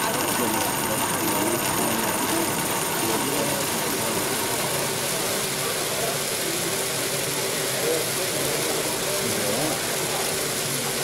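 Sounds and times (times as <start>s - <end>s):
model engine mechanical whirring: 0.0s - 11.0s.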